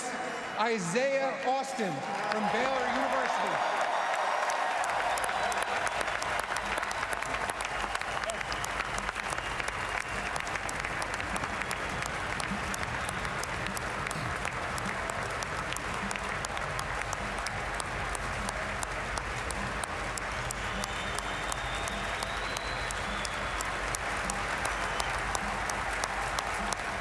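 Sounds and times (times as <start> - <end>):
crowd applause: 1.5 - 27.0.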